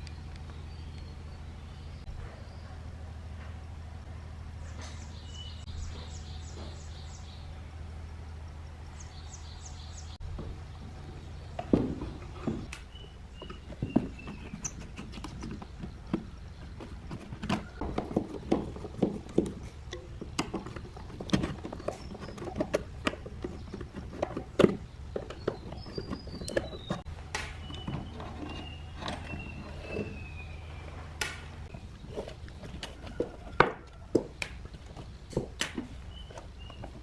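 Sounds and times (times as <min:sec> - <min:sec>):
faint birds chirping: 0:00.0 - 0:37.0.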